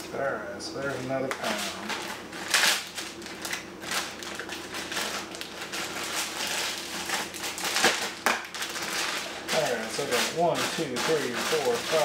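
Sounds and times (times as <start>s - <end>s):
plastic bags rustling and crinkling: 0.8s - 12.0s.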